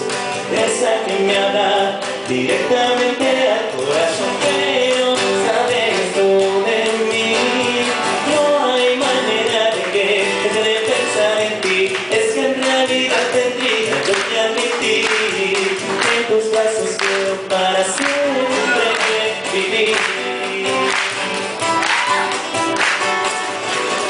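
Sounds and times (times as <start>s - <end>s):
live band playing song: 0.0s - 24.0s.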